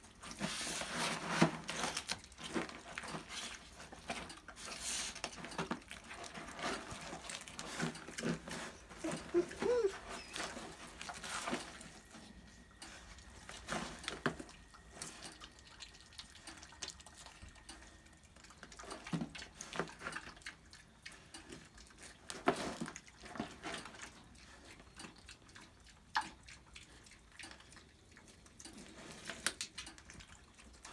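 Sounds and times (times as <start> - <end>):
animal chewing wetly: 0.0 - 30.9.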